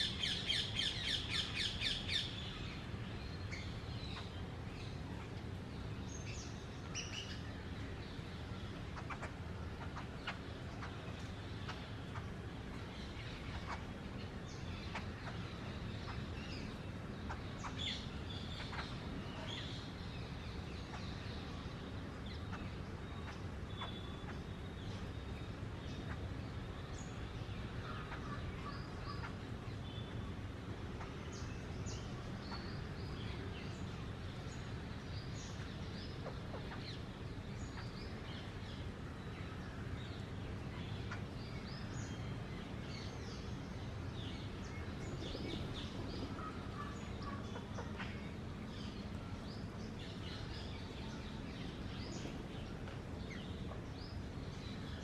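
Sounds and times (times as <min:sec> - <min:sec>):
birds chattering and chirping: 0:00.0 - 0:55.0.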